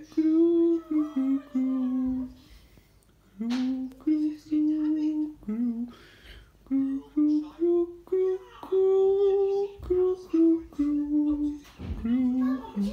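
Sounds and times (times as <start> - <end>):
person humming a tune: 0.0 - 2.5, 3.4 - 6.0, 6.6 - 12.9.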